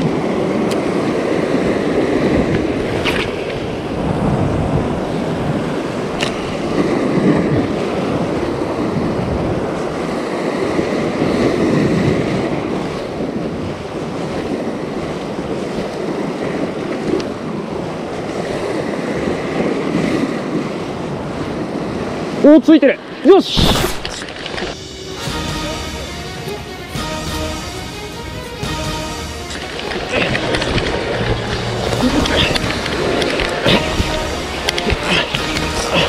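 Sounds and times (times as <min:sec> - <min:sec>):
wind buffeting microphone: 0:00.0 - 0:22.5, 0:29.5 - 0:36.0
sea waves breaking on rocks: 0:00.0 - 0:28.4, 0:29.0 - 0:36.0.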